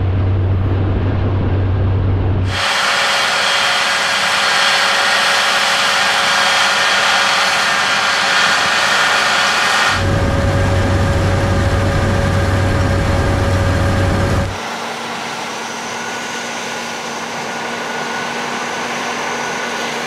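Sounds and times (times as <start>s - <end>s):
combine harvester running: 0.0s - 20.0s
high mechanical whines: 0.0s - 20.0s.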